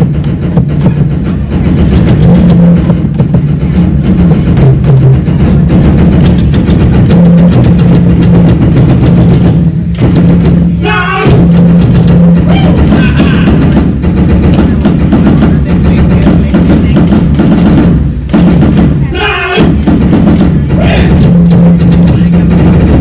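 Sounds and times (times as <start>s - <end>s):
drums beating fast rhythm: 0.0s - 23.0s
steady low note: 0.0s - 23.0s.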